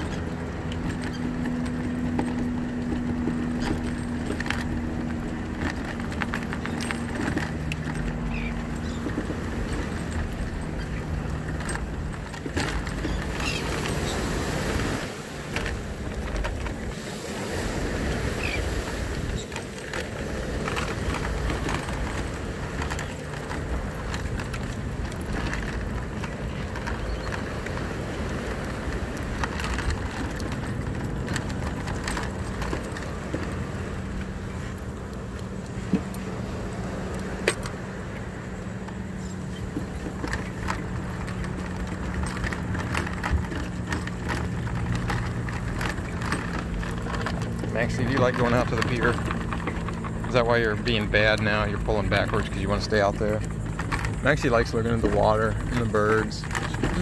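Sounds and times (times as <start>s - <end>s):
rattling clicks: 0.0s - 17.0s, 17.9s - 57.0s
scooter rolling on wooden boards: 0.0s - 57.0s.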